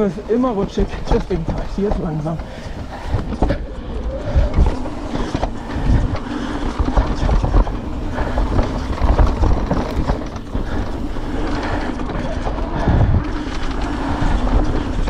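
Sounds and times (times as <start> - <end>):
bike tyre rumble on dirt: 0.0 - 15.0
chain and frame clatter: 0.0 - 15.0
steady hum: 0.0 - 15.0.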